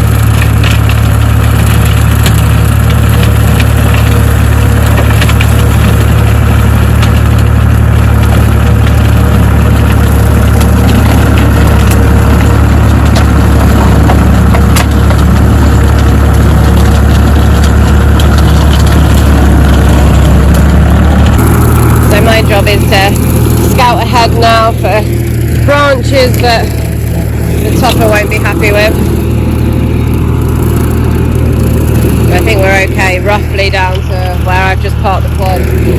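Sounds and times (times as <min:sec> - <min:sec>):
stems snapping and crackling: 0:00.0 - 0:35.9
tractor engine drone: 0:00.0 - 0:35.9.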